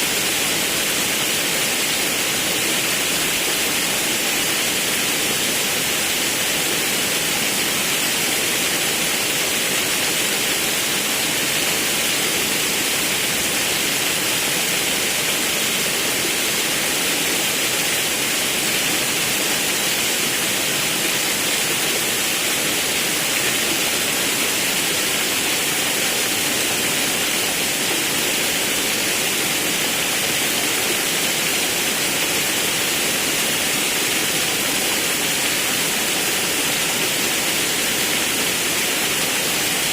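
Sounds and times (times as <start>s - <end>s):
river rushing over waterfall: 0.0s - 39.9s.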